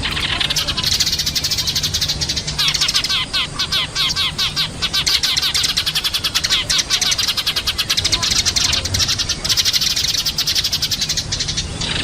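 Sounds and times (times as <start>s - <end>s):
sparrows chirping rapidly: 0.0s - 12.0s.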